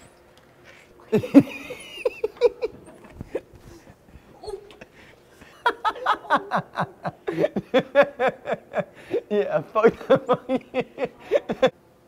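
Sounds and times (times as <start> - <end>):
person laughing: 1.1 - 11.7.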